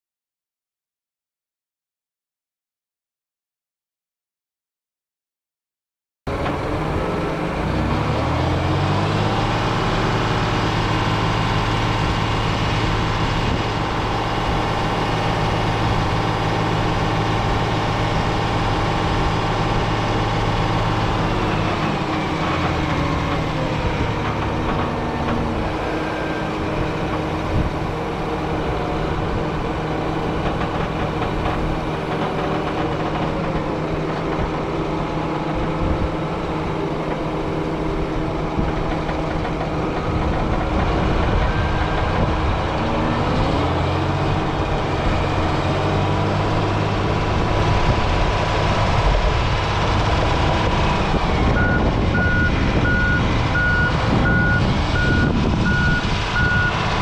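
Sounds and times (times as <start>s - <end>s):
diesel engine revving: 6.3s - 57.0s.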